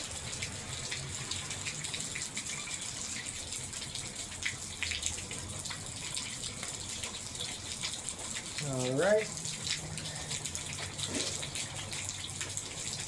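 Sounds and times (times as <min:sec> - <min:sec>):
small ticks and drips: 0:00.0 - 0:13.0
steady rain: 0:00.0 - 0:13.0
water running off gutters: 0:00.0 - 0:13.0.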